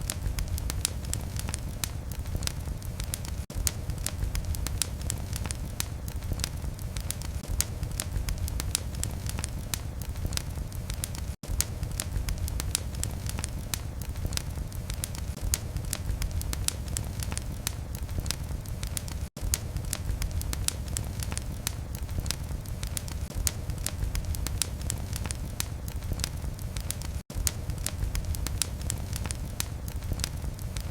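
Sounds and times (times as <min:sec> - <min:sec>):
low rumble of flames: 0:00.0 - 0:30.9
wood fire crackling and popping: 0:00.0 - 0:30.9.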